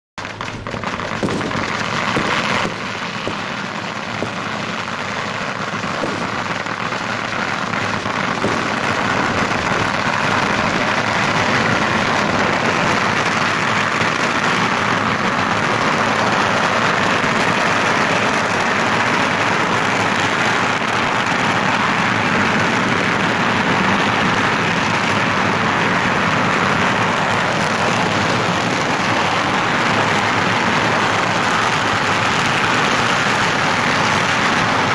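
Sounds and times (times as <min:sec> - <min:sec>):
firecrackers crackling: 0:00.2 - 0:34.9.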